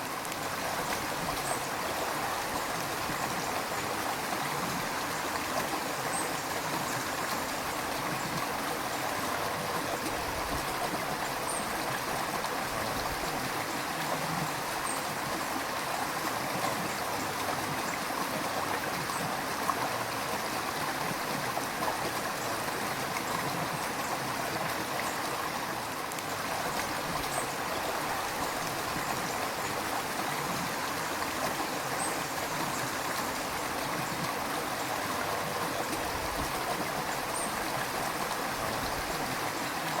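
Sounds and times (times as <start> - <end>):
water rushing over rocks: 0.0 - 40.0.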